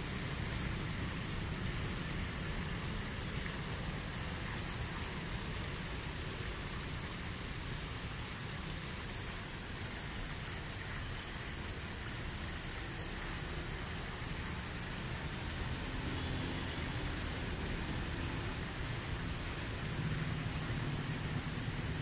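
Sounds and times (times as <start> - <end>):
fountain water splashing into pool: 0.0 - 22.0.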